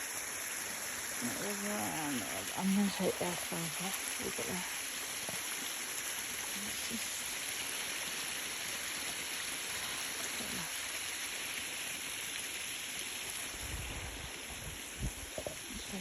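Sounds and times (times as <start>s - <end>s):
waterfall splashing: 0.0s - 16.0s.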